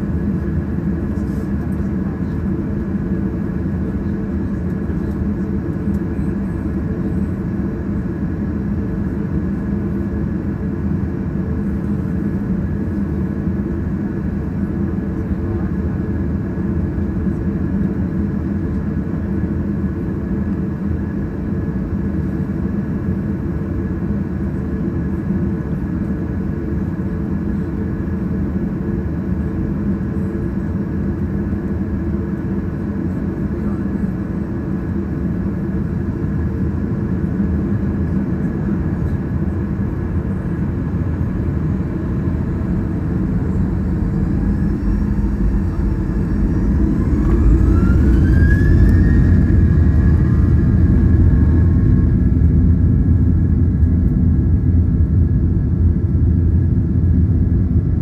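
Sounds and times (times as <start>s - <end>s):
airliner engines idling: 0.0s - 58.0s.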